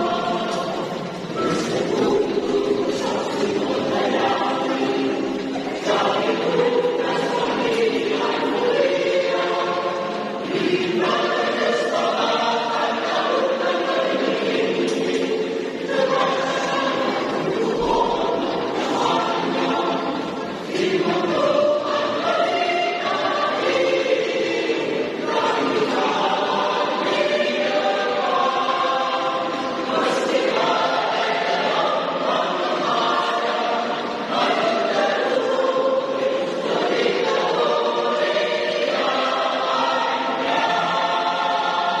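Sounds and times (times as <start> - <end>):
choir singing: 0.0 - 42.0.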